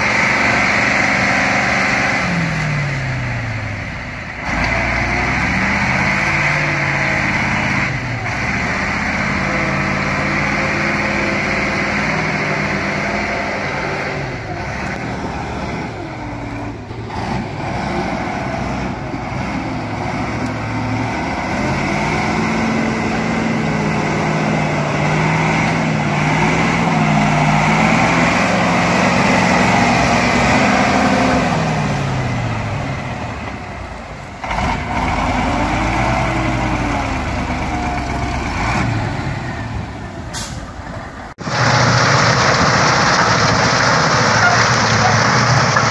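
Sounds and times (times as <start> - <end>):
truck diesel engine working hard: 0.0 - 45.9.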